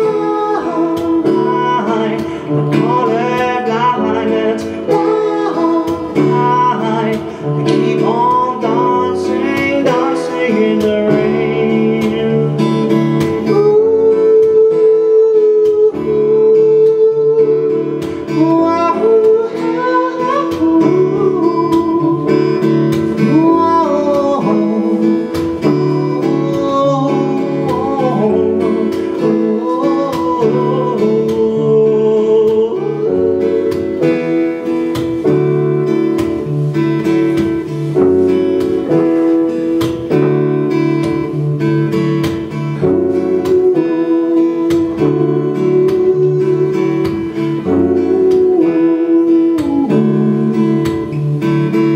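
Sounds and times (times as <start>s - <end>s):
acoustic guitar playing: 0.0s - 51.9s.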